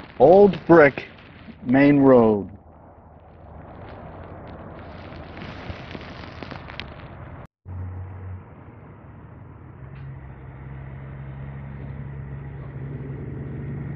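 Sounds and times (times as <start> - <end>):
rushing outdoor noise: 0.0 - 13.9.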